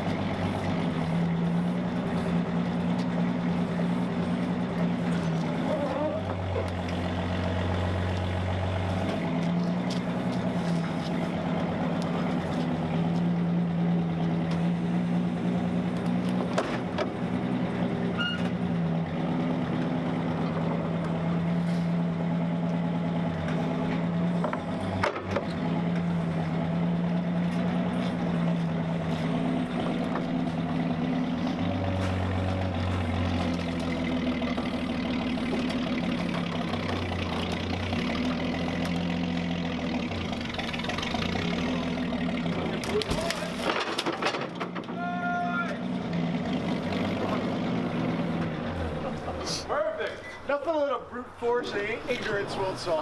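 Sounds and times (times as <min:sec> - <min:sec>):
forklift engine running: 0:00.0 - 0:53.0.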